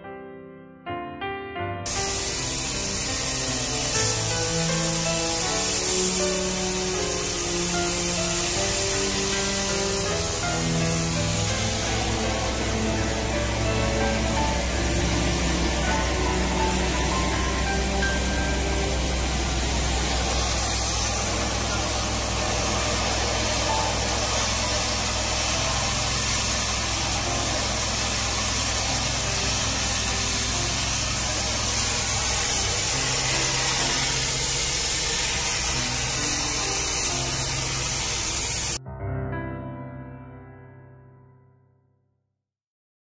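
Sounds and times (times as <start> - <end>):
water jet hissing: 1.9 - 38.8
engine humming: 2.1 - 38.7.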